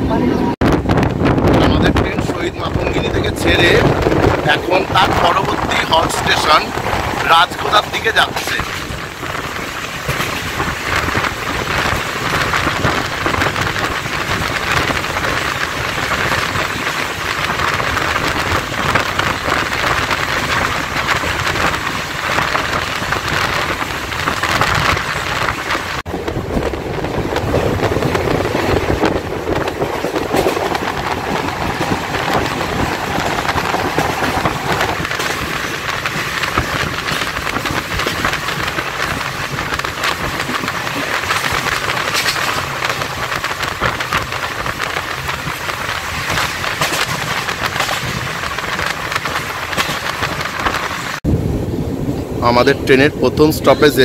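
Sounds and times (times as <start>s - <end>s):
train wheel-on-rail rushing noise: 0.0s - 54.0s.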